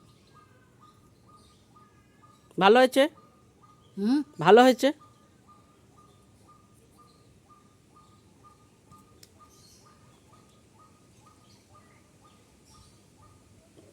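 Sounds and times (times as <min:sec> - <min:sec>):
faint higher bird chirps: 0:00.0 - 0:13.6.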